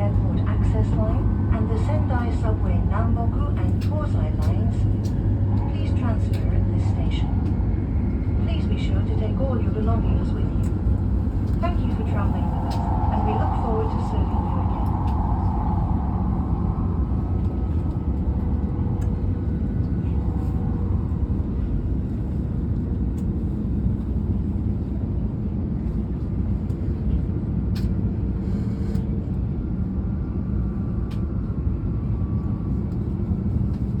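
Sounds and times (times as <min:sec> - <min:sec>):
train rumble inside cabin: 0:00.0 - 0:34.0.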